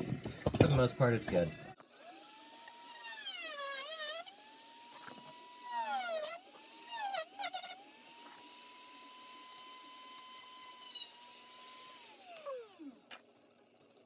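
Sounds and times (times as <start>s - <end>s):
rotary tool cutting plastic: 1.8s - 13.3s.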